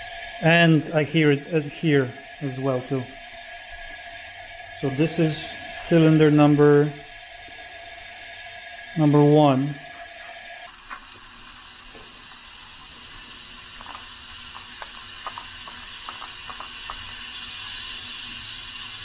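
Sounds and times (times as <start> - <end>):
compressed air hissing: 0.0 - 19.0.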